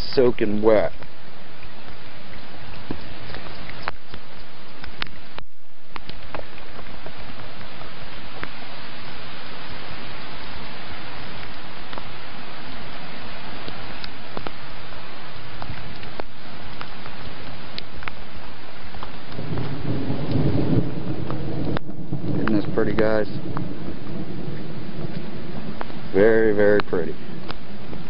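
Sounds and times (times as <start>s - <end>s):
heavy rain pouring: 0.0s - 28.0s
low rumble: 0.0s - 28.0s
sharp ticks of raindrops: 0.0s - 28.0s.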